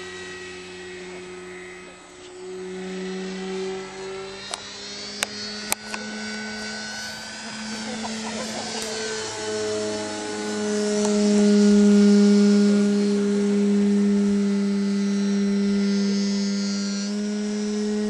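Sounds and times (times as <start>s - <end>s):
model airplane motor droning: 0.0s - 18.0s.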